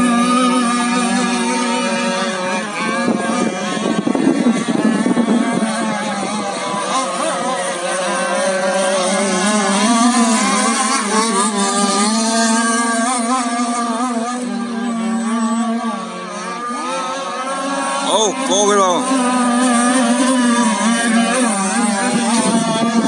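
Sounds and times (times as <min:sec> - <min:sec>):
model boat motors whining: 0:00.0 - 0:23.0.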